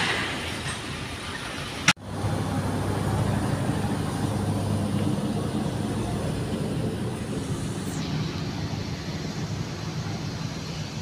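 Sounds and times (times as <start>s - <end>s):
engine running steadily: 0.3s - 11.0s.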